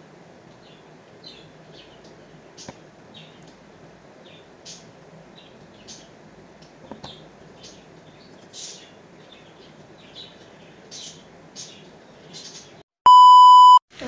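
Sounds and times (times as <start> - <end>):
low steady hiss: 0.0 - 12.8
faint birds chirping: 0.4 - 13.6.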